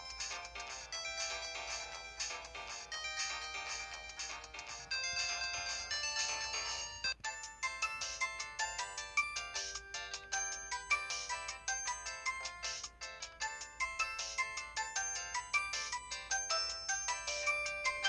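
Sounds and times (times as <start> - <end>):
mobile phone ringtone melodies: 0.0 - 18.0.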